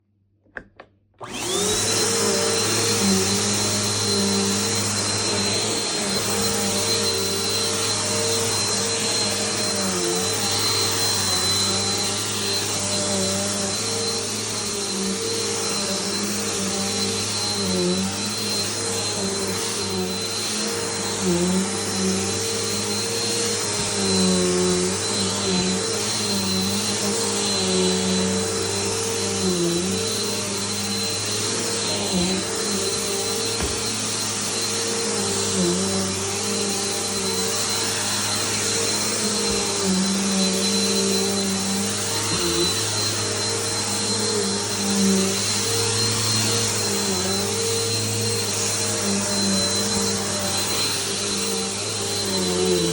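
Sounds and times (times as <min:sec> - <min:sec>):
vacuum cleaner motor whine: 0:00.4 - 0:52.9.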